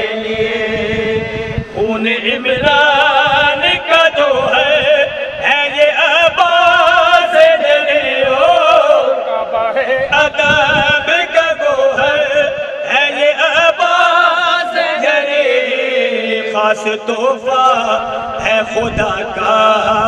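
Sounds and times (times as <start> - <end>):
men singing into microphones: 0.0 - 20.0.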